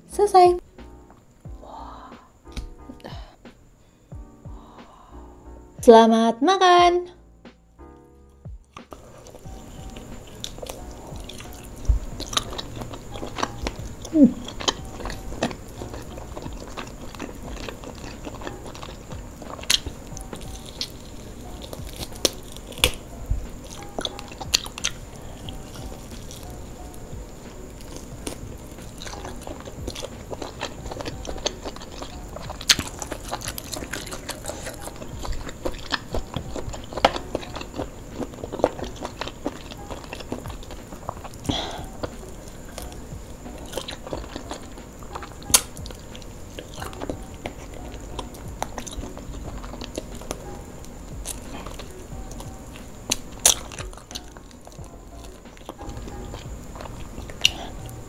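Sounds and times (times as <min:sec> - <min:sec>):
person chewing crunchy food: 0:08.6 - 0:58.0.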